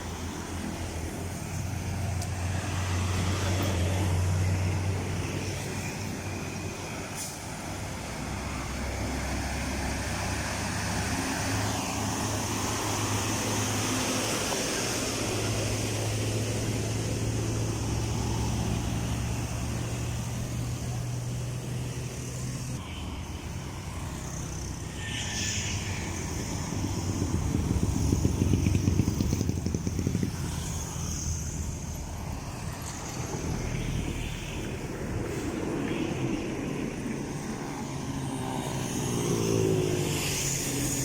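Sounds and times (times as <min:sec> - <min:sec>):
steady engine hum: 0:00.0 - 0:41.0
vehicle passing close: 0:00.0 - 0:41.0.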